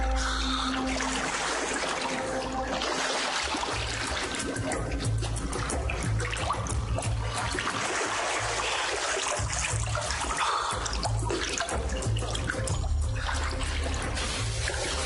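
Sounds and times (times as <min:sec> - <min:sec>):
dramatic background music: 0:00.0 - 0:15.0
rushing splashing water: 0:00.0 - 0:15.0.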